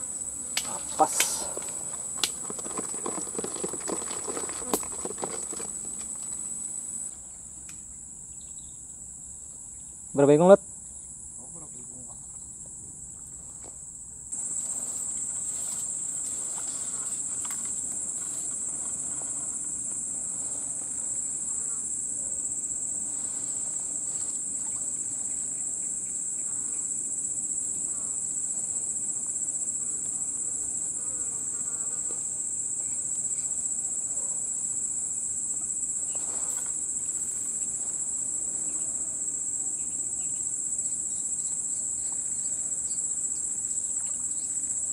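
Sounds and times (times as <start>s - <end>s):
insect chorus drone: 0.0s - 44.9s.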